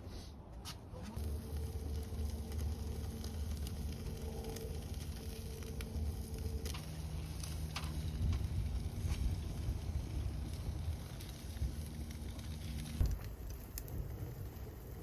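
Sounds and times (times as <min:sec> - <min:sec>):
fire crackling: 0:00.9 - 0:15.0
low steady rumble: 0:01.1 - 0:15.0.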